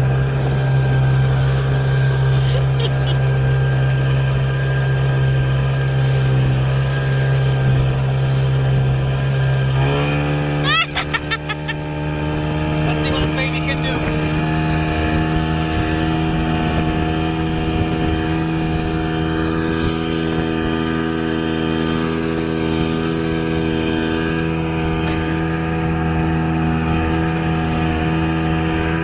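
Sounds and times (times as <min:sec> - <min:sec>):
speedboat engine running: 0:00.0 - 0:29.0.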